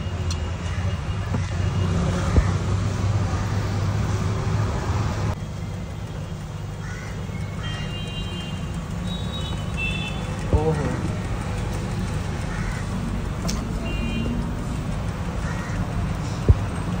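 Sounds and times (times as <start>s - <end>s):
low traffic hum: 0.0s - 17.0s.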